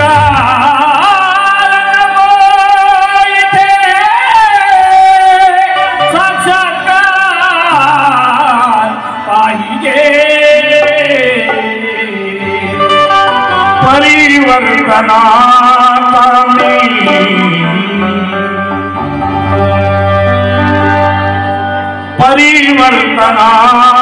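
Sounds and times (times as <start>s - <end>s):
person singing: 0.0s - 21.1s, 21.8s - 24.0s
sliding melodic accompaniment: 0.0s - 24.0s.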